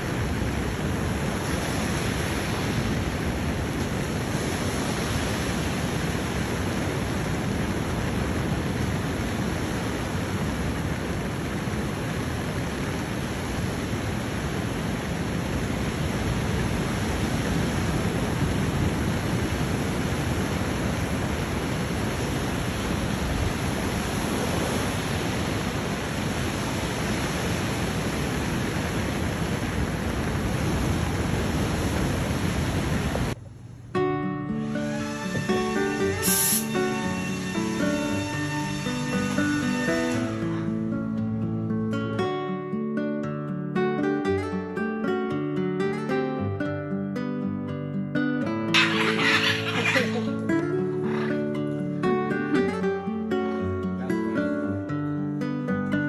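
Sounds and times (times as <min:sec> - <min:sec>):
ocean surf rushing: 0:00.0 - 0:33.4, 0:34.0 - 0:42.4, 0:48.7 - 0:54.9.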